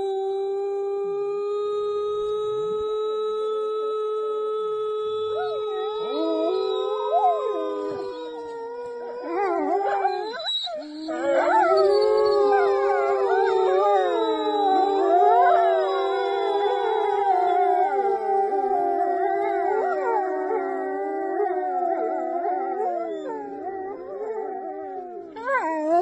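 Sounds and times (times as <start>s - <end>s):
wolves howling: 5.1s - 26.0s.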